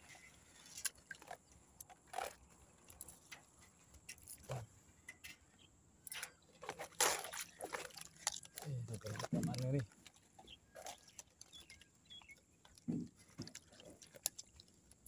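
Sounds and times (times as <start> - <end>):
fishing net rustling and knocking: 0.0 - 5.5, 6.1 - 15.0.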